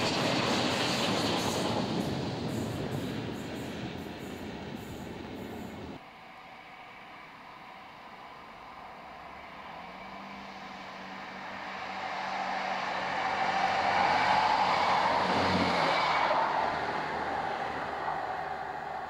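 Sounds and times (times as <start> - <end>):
diesel engine hum: 0.0 - 19.0
wheels rushing on rail: 0.0 - 19.0.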